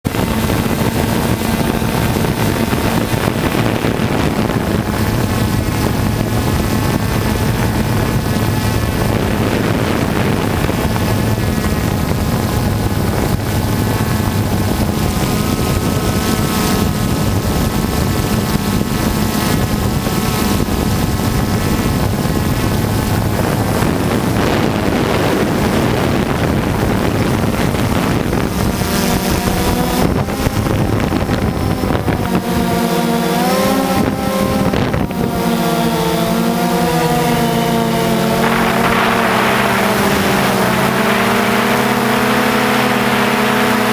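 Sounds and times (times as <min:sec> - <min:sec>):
drone motors whining: 0:00.2 - 0:43.9.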